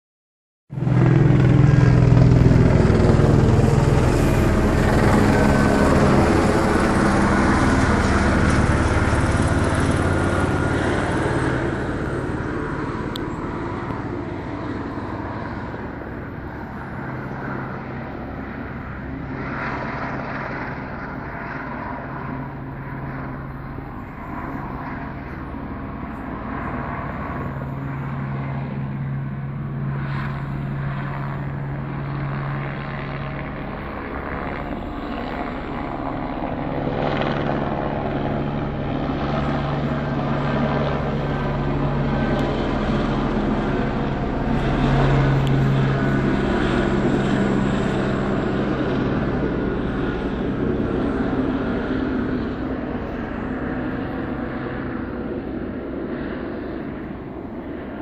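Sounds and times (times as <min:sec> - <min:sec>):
helicopter rotor and engine drone: 0:00.7 - 0:58.0.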